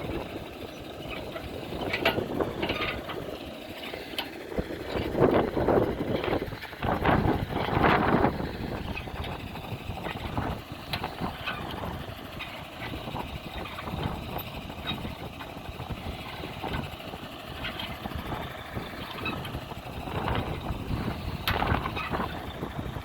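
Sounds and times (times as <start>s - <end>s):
road noise: 0.0s - 23.0s
truck engine running: 0.0s - 23.0s
small rattles: 0.1s - 23.0s.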